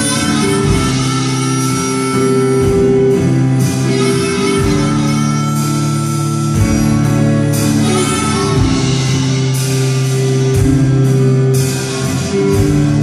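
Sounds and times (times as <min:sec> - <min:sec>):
live band playing: 0:00.0 - 0:13.0
sustained guitar notes: 0:00.0 - 0:13.0.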